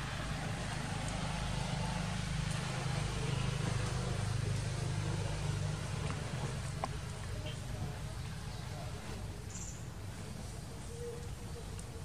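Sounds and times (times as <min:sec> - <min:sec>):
engine running low hum: 0:00.0 - 0:12.0.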